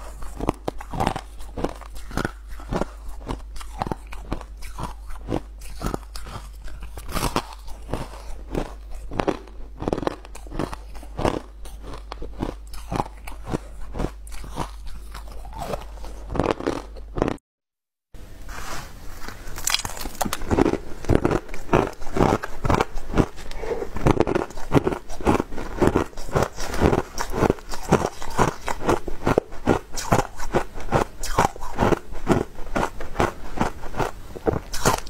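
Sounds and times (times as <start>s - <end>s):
chewing crushed ice: 0.0s - 17.4s, 19.3s - 35.0s.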